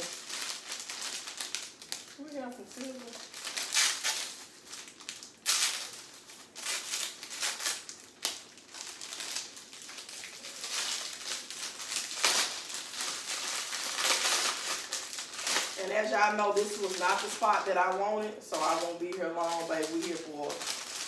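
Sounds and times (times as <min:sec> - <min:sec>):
cellophane sleeve crinkling: 0:00.0 - 0:21.0.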